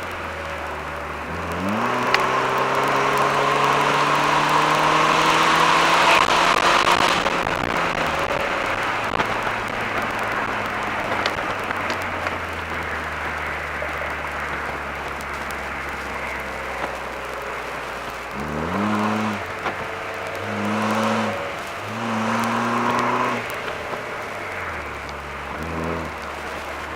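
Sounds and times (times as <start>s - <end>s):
road noise: 0.0s - 26.9s
car engine pulling in gear: 1.2s - 26.9s.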